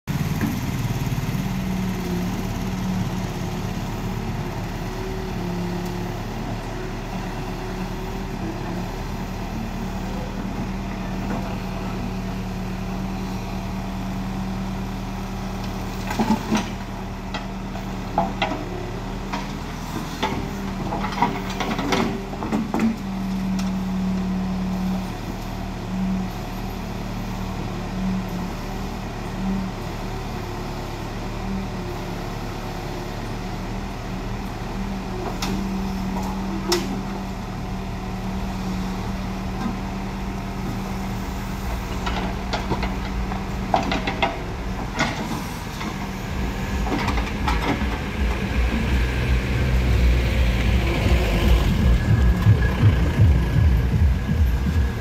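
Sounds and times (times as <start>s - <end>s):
diesel engine running under load: 0.1s - 55.0s.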